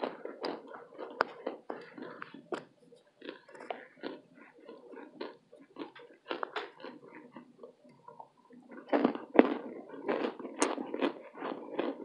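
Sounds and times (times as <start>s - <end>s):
chewing and crunching: 0.0s - 12.0s.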